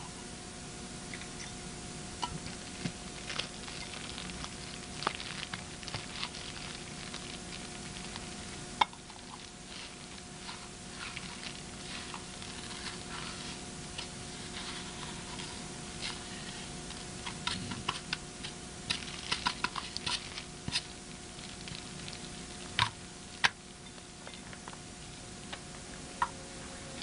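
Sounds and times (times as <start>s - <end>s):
faint steady hum: 0.0s - 27.0s
plastic sack crinkling: 2.4s - 24.1s.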